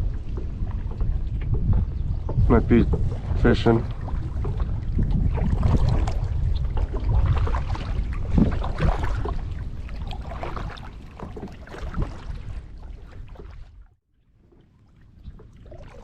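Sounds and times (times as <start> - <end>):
wind rumble on microphone: 0.0 - 14.0
paddle splashes and drips: 0.0 - 16.0.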